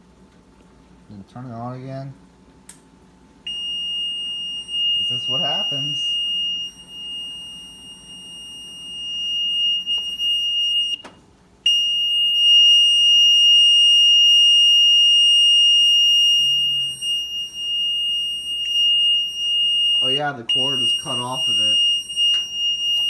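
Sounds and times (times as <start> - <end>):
high-pitched washer beep: 3.5 - 11.1, 11.7 - 23.0.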